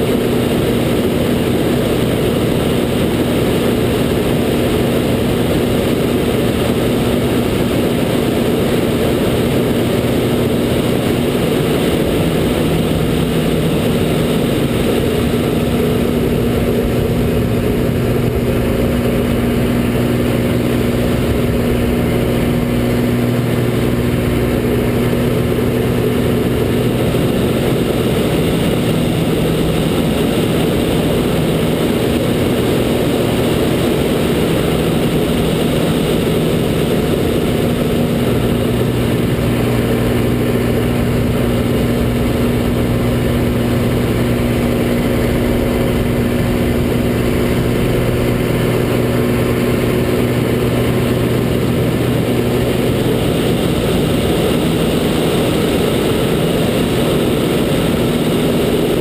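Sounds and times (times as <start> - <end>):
plane engine and propeller droning: 0.0 - 59.0.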